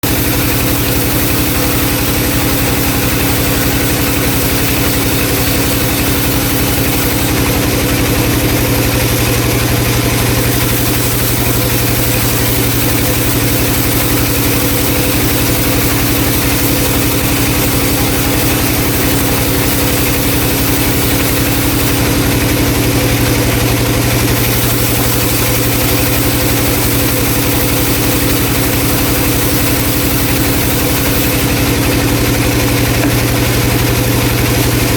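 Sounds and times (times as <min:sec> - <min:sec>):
band saw cutting log: 0:00.0 - 0:34.9.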